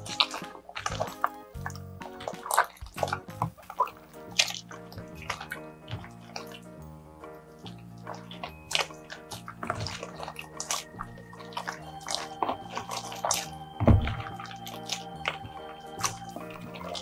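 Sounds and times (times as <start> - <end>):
background music with held notes: 0.0 - 17.0
slime squelching and popping: 0.0 - 17.0.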